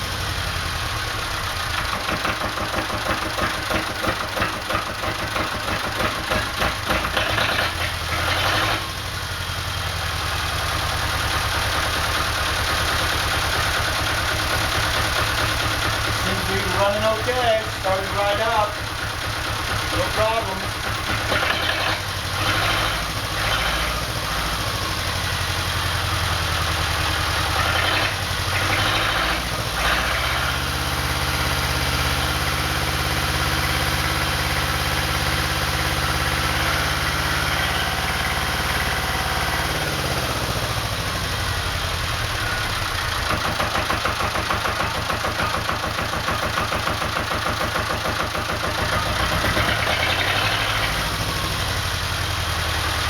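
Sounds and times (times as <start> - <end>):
marine diesel engine running: 0.0 - 53.0.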